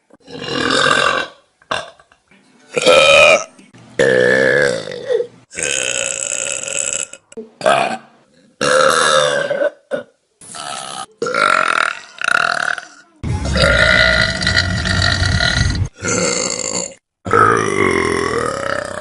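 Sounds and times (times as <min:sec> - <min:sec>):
loud human burps: 0:00.2 - 0:02.1, 0:02.8 - 0:13.0, 0:13.6 - 0:19.0.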